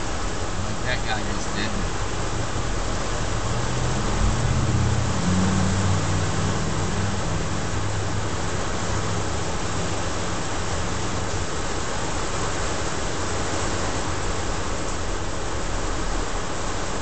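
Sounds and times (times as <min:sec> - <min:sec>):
heavy rain on vehicle roof: 0:00.0 - 0:17.0
low engine hum: 0:00.0 - 0:17.0.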